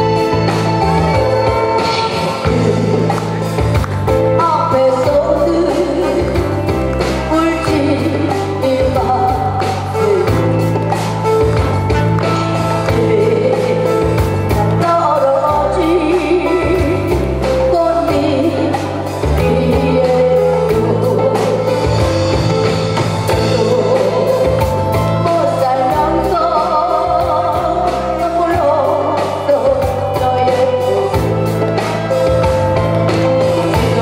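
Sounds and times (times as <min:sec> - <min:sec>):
backing track with bass and drums: 0:00.0 - 0:34.0
woman singing into a microphone: 0:01.4 - 0:03.5, 0:04.1 - 0:10.8, 0:12.7 - 0:22.1, 0:23.3 - 0:31.6, 0:33.2 - 0:34.0.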